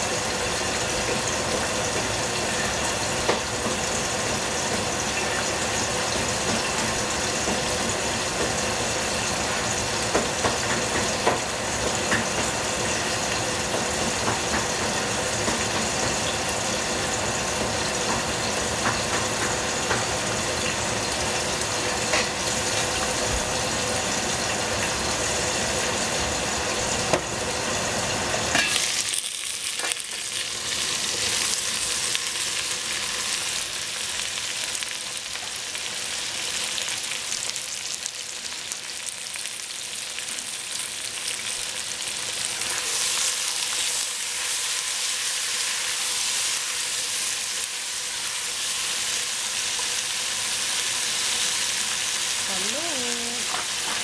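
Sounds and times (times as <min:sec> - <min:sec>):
food sizzling in a pot: 0:00.0 - 0:54.0.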